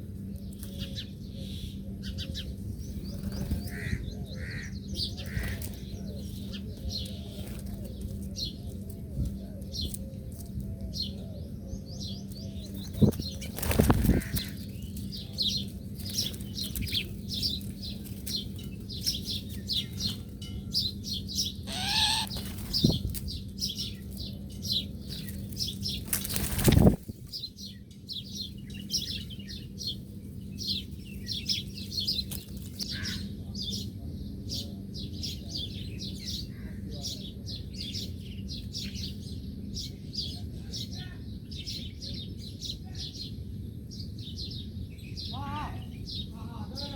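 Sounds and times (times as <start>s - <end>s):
steady low hum: 0.0s - 45.3s
small birds chirping: 0.0s - 46.9s.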